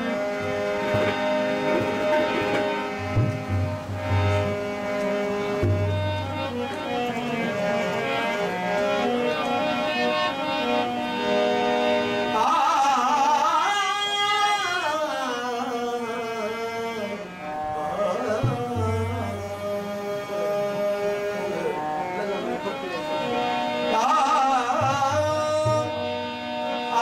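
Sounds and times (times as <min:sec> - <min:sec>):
harmonium holding notes: 0:00.0 - 0:27.0.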